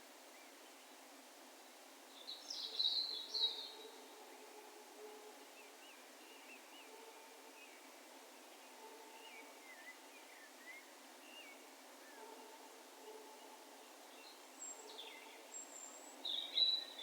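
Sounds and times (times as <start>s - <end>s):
open field hiss: 0.0s - 17.0s.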